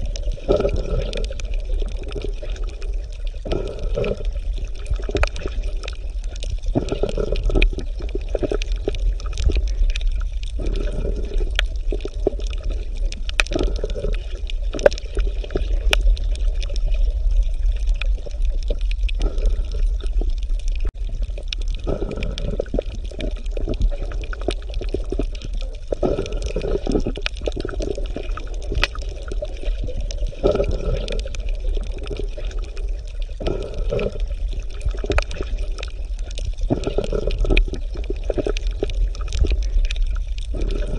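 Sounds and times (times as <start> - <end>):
faint clicks: 0.0 - 40.9
low underwater rumble: 0.0 - 40.9
underwater bubbling: 0.0 - 40.9.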